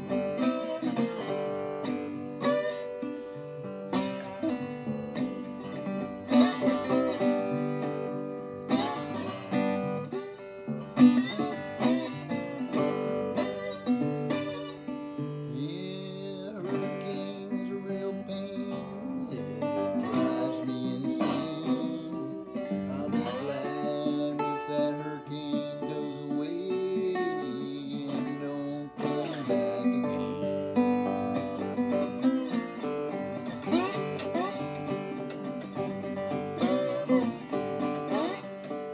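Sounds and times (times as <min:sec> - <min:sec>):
resonator guitar playing: 0:00.0 - 0:38.9.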